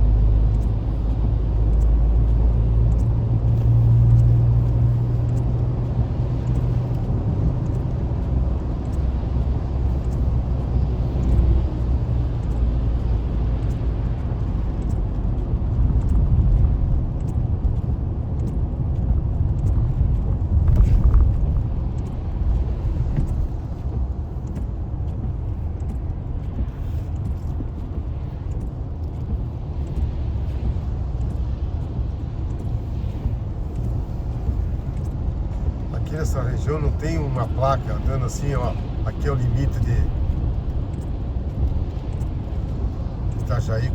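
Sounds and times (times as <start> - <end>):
road and engine rumble inside car: 0.0 - 43.9.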